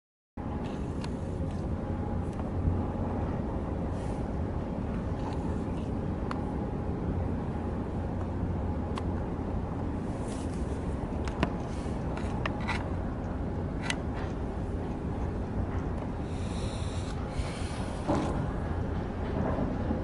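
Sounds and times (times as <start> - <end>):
low harbourside rumble: 0.4 - 20.0.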